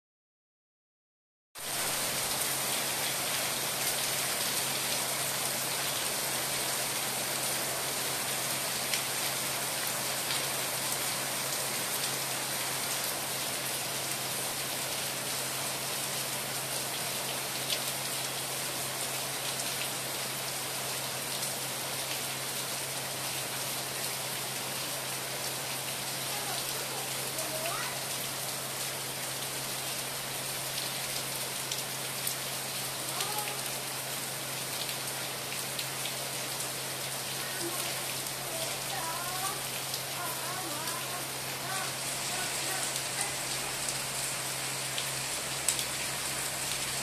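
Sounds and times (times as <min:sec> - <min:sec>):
steady rain falling: 0:01.6 - 0:47.0.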